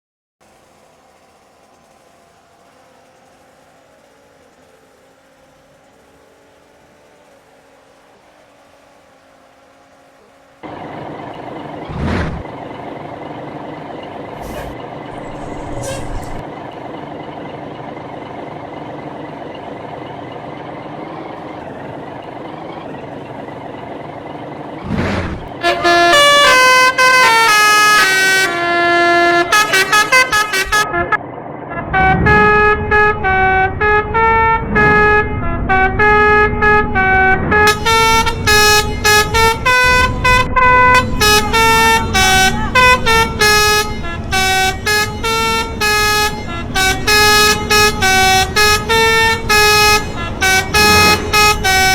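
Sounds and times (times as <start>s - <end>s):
engine hum: 0.4s - 51.9s
musical bus horn melody: 0.4s - 51.9s.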